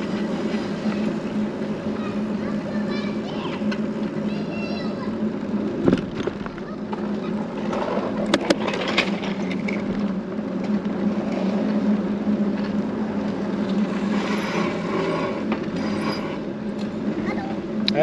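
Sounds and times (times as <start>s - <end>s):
vehicle engine and tyre hum: 0.0s - 18.0s.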